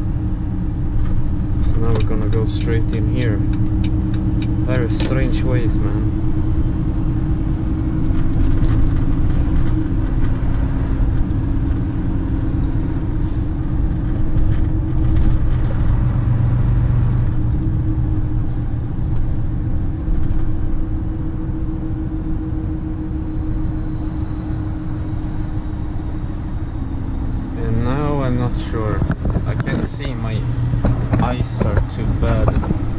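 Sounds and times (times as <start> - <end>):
road rumble: 0.0 - 32.9
truck diesel engine running: 0.0 - 32.9.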